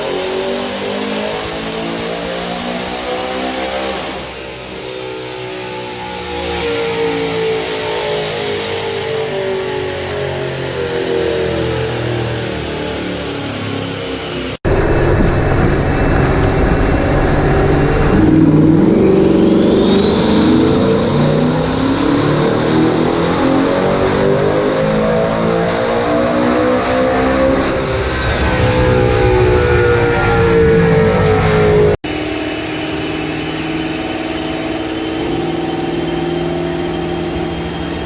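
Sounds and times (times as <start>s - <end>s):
car engine revving on dyno: 0.0s - 38.0s
turbo whine: 0.0s - 38.0s.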